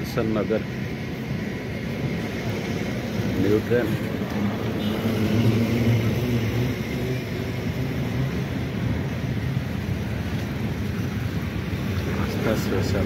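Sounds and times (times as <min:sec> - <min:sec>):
train coaches rumbling on rails: 0:00.0 - 0:13.0.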